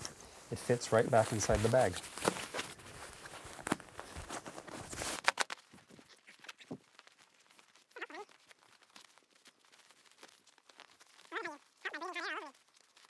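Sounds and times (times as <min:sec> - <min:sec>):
nylon sack rustling: 0:00.0 - 0:13.0.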